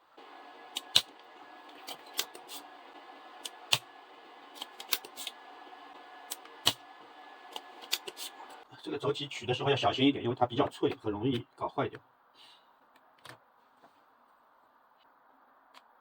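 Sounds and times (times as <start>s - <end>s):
faint hum: 0.0s - 12.8s.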